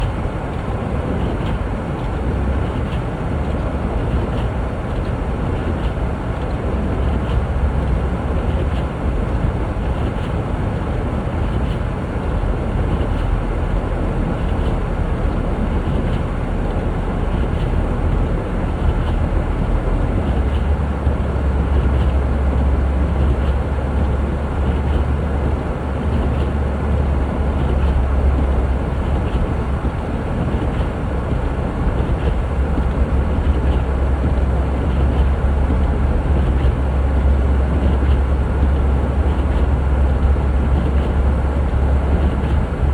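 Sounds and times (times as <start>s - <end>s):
engine and road noise rumble: 0.0s - 42.9s.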